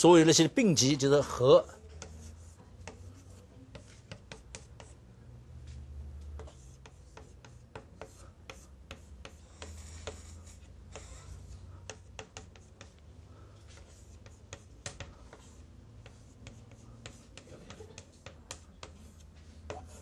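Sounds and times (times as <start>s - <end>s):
chalk tapping on chalkboard: 1.8s - 5.0s, 5.7s - 20.0s.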